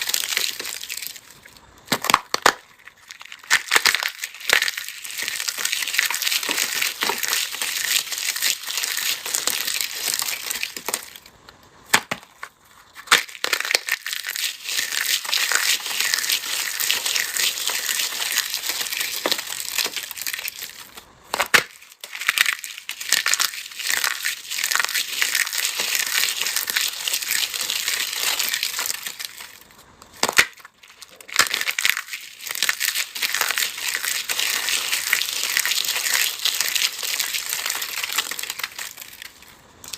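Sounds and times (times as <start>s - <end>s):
dry material crunching in hands: 0.0s - 39.9s.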